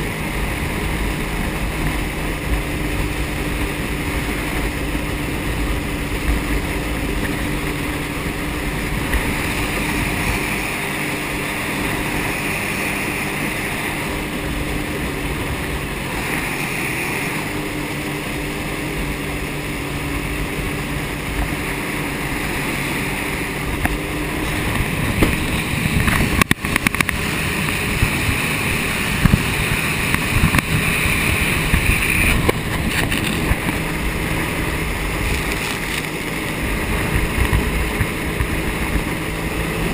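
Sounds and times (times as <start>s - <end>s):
jet ski engine running: 0.0s - 39.9s
wind buffeting microphone: 0.0s - 39.9s.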